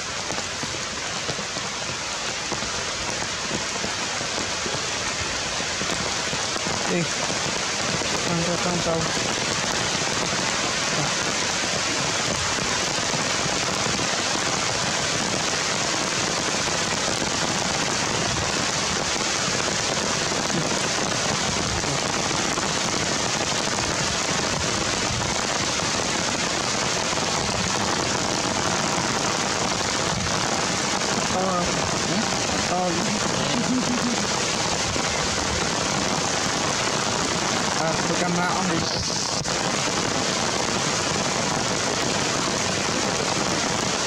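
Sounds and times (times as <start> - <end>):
rain on forest canopy: 0.0 - 44.0.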